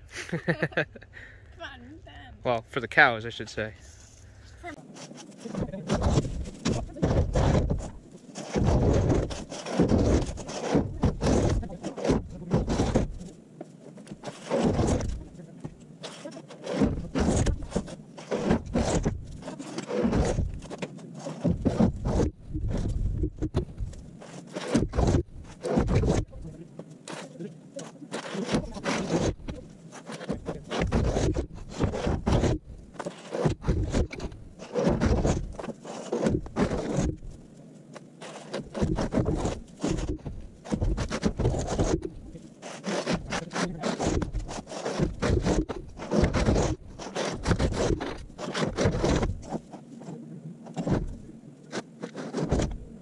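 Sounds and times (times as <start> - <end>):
scraping and rubbing: 0.1 - 53.0.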